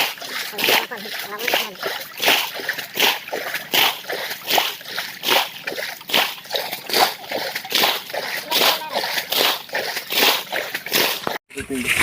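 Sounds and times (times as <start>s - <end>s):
water splashing from bailing: 0.0s - 12.0s.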